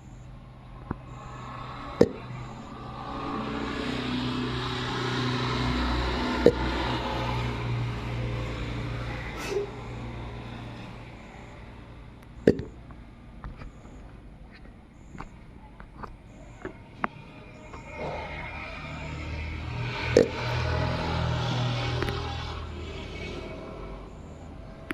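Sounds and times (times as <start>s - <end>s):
road vehicle passing by: 0.0s - 14.1s, 16.0s - 24.9s.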